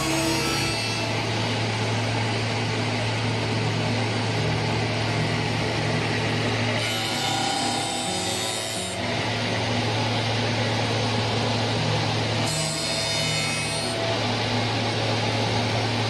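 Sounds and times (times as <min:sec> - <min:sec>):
lathe motor hum: 0:00.0 - 0:16.0.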